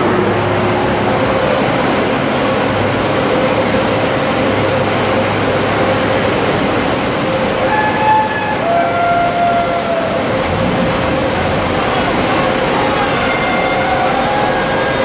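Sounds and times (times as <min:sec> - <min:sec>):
car wash rushing noise: 0:00.0 - 0:15.0
faint steady hum: 0:00.0 - 0:15.0.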